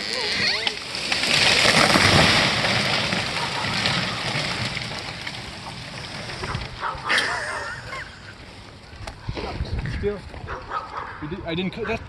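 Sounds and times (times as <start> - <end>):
tree crown crashing down: 0.0 - 9.7
branches and leaves rustling: 0.0 - 11.4.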